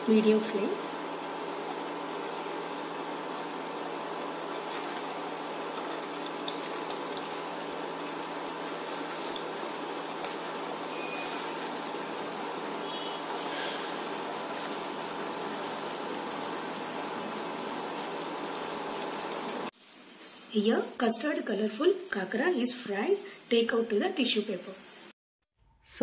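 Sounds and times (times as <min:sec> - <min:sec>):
dough balls sizzling in oil: 0:00.1 - 0:25.1.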